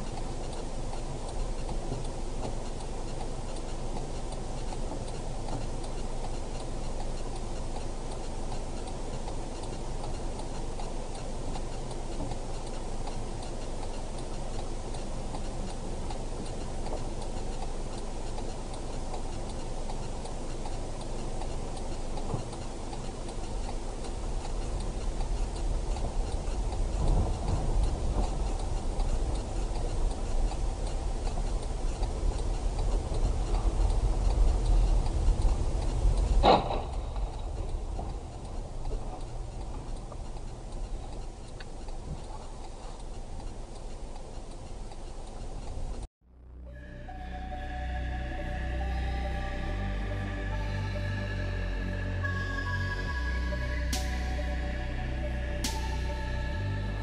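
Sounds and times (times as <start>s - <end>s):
regular ticking in car: 0.0s - 46.1s
engine and road rumble: 0.0s - 57.0s.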